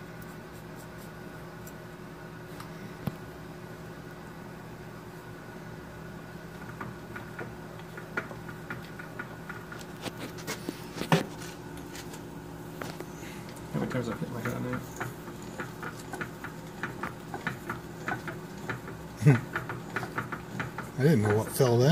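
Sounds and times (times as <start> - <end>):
milling machine spindle hum: 0.1 - 21.9.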